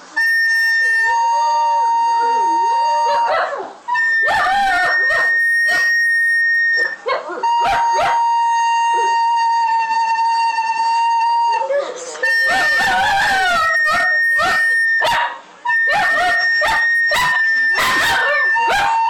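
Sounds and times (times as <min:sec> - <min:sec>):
steady high notes: 0:00.0 - 0:19.0
dog howling: 0:01.1 - 0:19.0.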